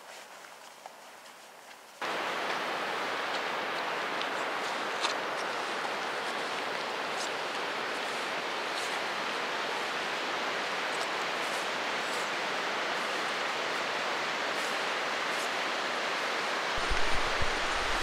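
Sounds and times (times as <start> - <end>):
rushing hiss of mountain ambience: 0.0 - 18.0.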